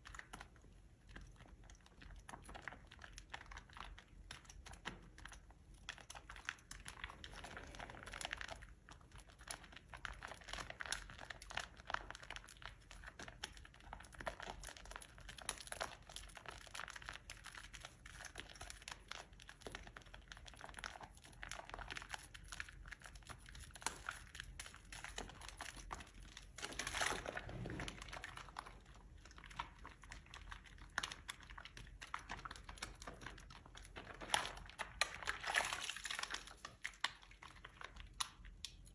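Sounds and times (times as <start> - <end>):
soap crackling and crunching: 0.0 - 38.9.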